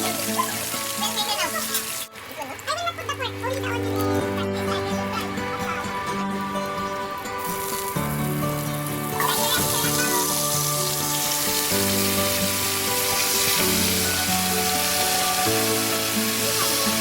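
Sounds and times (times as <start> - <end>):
background music with held notes: 0.0 - 17.0
fish sizzling in hot oil: 0.0 - 17.0.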